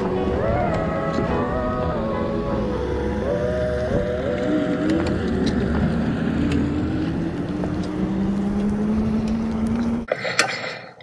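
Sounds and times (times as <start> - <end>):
thin rising tone: 0.0 - 10.1
wind and road rumble: 0.0 - 10.1.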